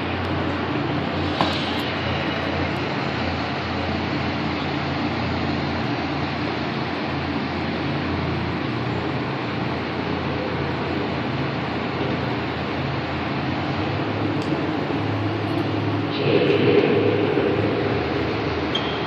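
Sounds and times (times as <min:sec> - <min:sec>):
vehicle rumble and road noise: 0:00.0 - 0:19.0.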